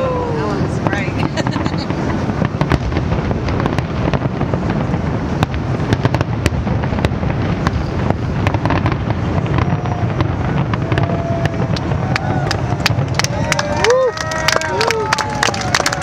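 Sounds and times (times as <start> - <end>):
continuous low rumble: 0.0 - 16.0
fireworks bangs and crackling: 0.0 - 16.0.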